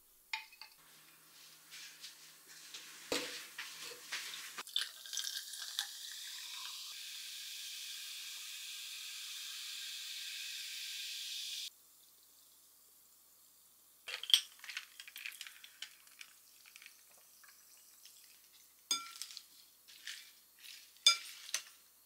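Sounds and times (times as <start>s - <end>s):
sparkling water fizzing: 2.4s - 12.9s, 14.1s - 21.9s.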